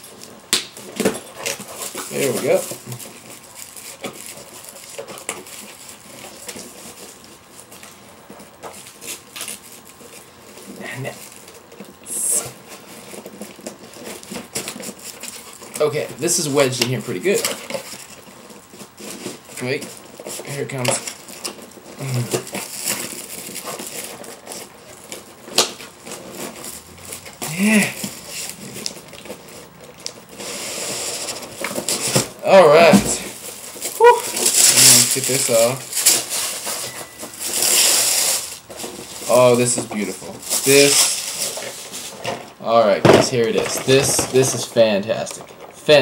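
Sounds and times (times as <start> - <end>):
cardboard and wrapping rustling: 0.0 - 46.0.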